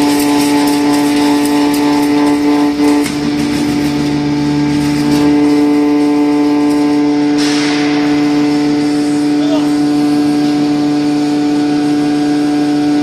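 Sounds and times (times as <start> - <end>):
grinding mill humming: 0.0 - 13.0.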